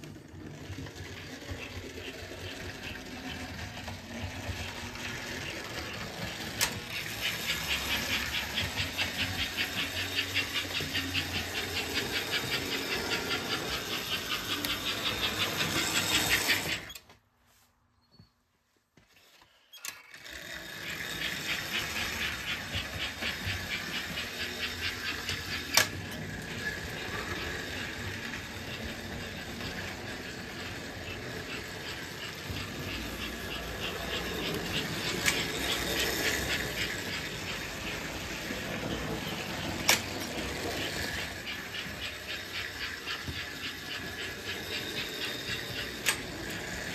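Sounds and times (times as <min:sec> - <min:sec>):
toy steam train running: 0:00.0 - 0:17.2, 0:19.2 - 0:46.9.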